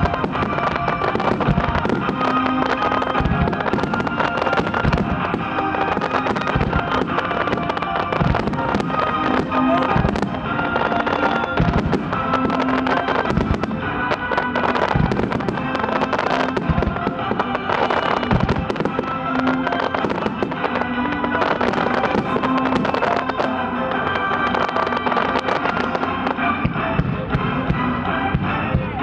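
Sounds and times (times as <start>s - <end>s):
fireworks booming: 0.0s - 29.0s
fireworks cracking: 0.0s - 29.0s
music playing: 0.0s - 29.0s.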